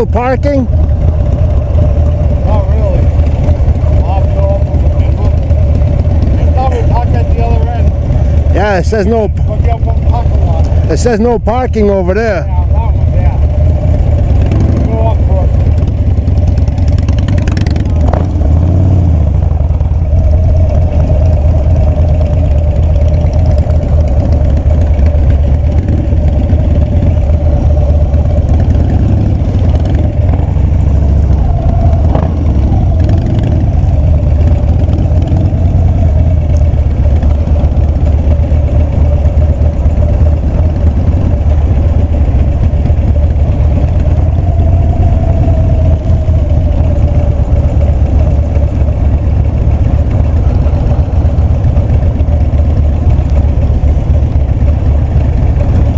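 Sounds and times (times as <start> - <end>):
motorcycle engine idling rumble: 0.0 - 55.9.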